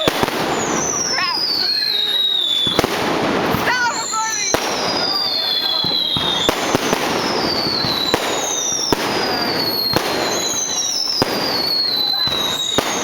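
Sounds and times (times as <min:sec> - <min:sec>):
falling whistles: 0:00.0 - 0:02.9, 0:03.6 - 0:13.0
fireworks bangs: 0:00.0 - 0:13.0
fireworks crackling hiss: 0:00.0 - 0:13.0.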